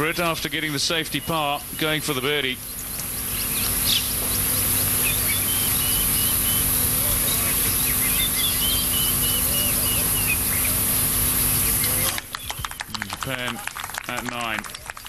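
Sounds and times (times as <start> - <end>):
birds chirping: 0.0 - 15.0
outdoor ambient hiss and rumble: 0.0 - 15.0.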